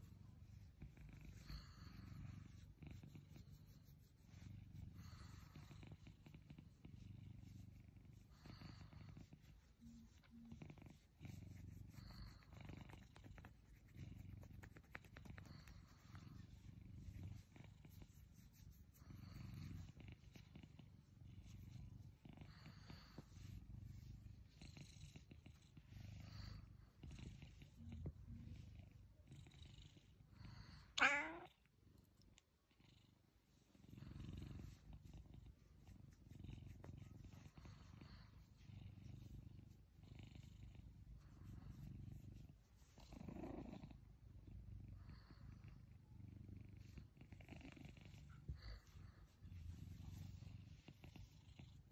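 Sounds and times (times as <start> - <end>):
cat purring: 0.0 - 51.9.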